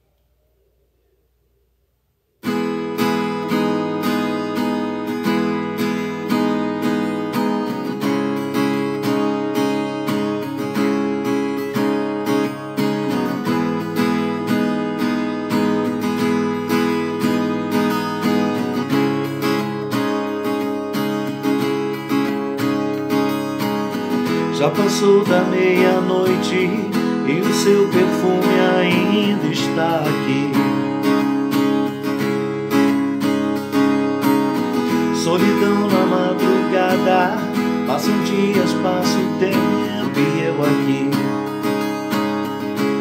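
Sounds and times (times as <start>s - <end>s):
acoustic guitar strumming: 2.4s - 43.0s.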